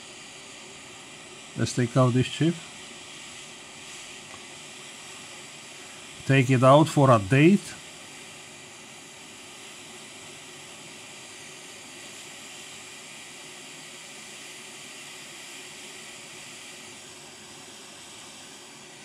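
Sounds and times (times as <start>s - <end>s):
hot air station hissing: 0.0s - 19.0s.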